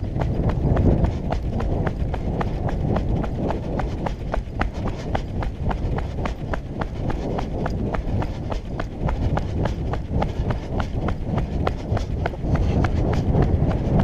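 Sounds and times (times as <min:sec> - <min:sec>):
low rumble: 0:00.0 - 0:14.0
running footsteps on asphalt: 0:00.0 - 0:14.0.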